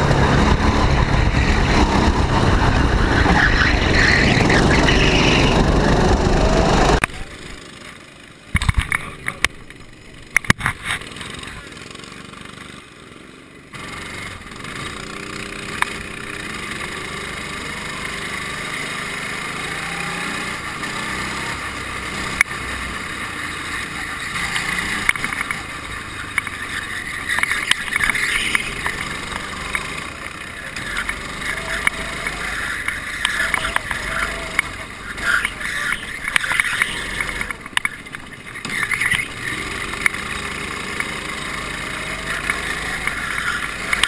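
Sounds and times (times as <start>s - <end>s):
go-kart engine running: 0.0s - 44.0s.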